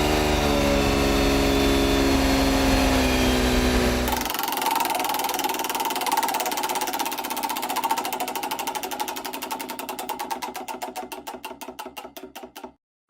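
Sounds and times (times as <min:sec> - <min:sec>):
engine winding down: 0:00.0 - 0:12.6.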